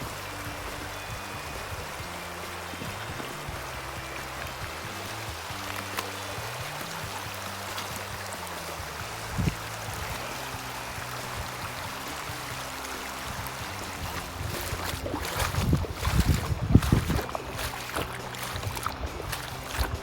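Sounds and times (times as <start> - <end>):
river water rushing: 0.0 - 20.0
soft low background music: 0.0 - 20.0.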